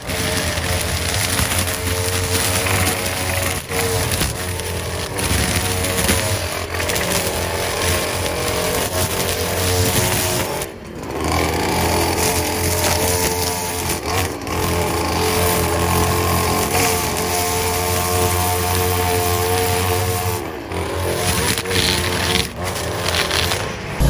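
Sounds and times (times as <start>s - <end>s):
string trimmer cutting grass: 0.0s - 24.0s.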